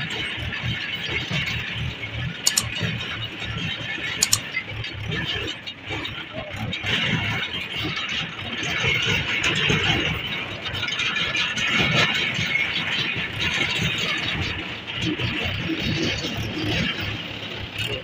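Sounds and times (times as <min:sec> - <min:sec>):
tractor rumbling and clattering: 0:00.0 - 0:18.0.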